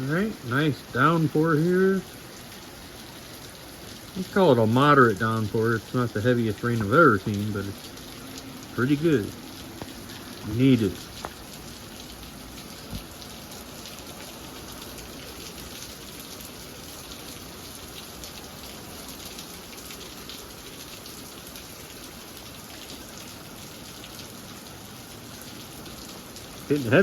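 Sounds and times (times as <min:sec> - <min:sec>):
rain downpour hissing: 0:00.0 - 0:27.0.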